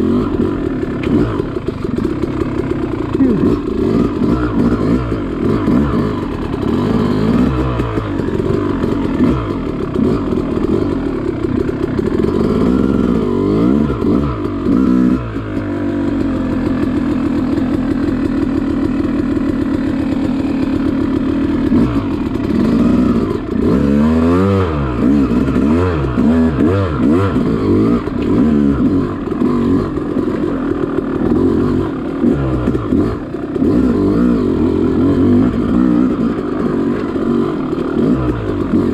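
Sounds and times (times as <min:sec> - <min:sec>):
two-stroke dirt bike revving: 0:00.0 - 0:38.9.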